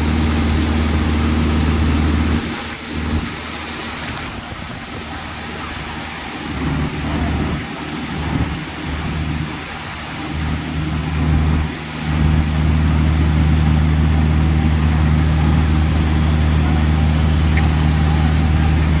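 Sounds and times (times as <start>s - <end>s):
heavy vehicle engine humming: 0.0s - 19.0s.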